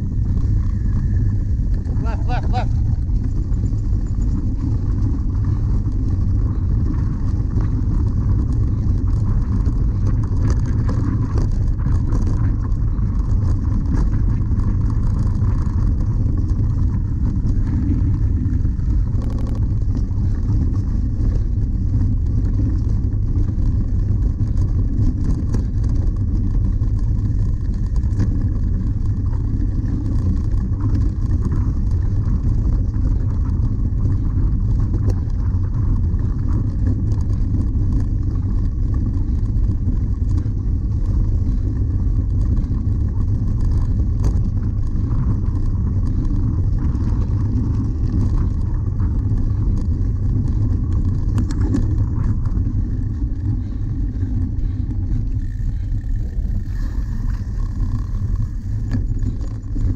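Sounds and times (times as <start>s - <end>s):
bike rattles and ticks: 0.0s - 59.9s
wind rumbling on microphone: 0.0s - 59.9s.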